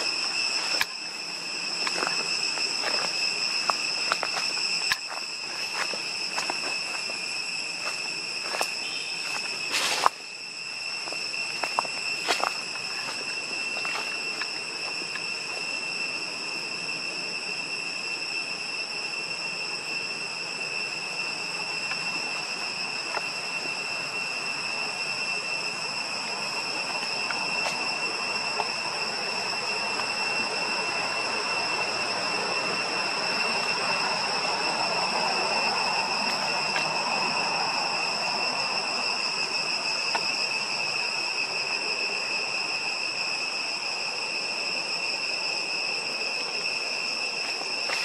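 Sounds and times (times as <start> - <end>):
insects droning whine: 0.0 - 48.0
steady hiss: 0.0 - 48.0.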